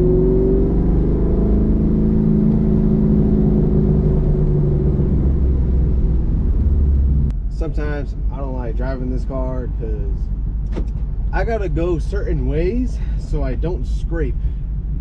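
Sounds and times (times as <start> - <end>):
car engine drone from cabin: 0.0 - 15.0.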